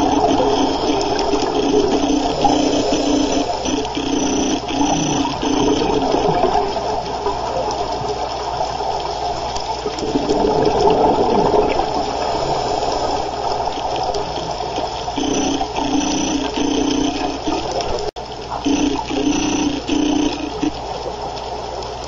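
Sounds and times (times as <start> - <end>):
underwater regulator bubbles: 0.0 - 22.0.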